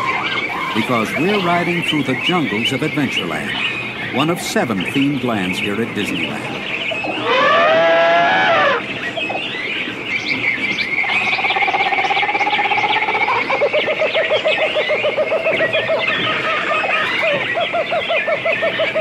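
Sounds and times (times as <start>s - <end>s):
pulsing trilling animal call: 0.0s - 19.0s.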